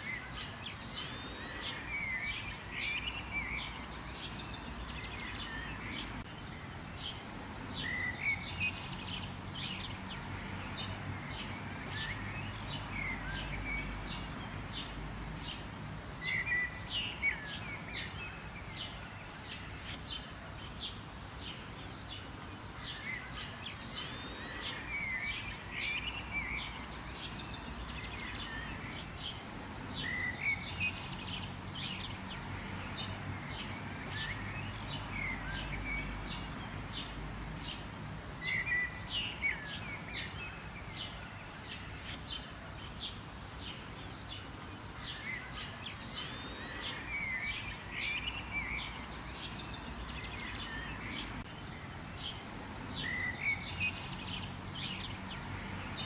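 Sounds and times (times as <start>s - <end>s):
birds chirping and twittering: 0.0s - 56.0s
outdoor hiss and rumble: 0.0s - 56.0s.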